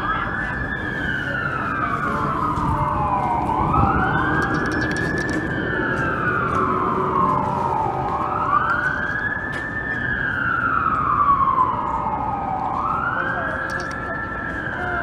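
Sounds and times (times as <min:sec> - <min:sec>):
fire truck siren wailing: 0:00.0 - 0:15.0.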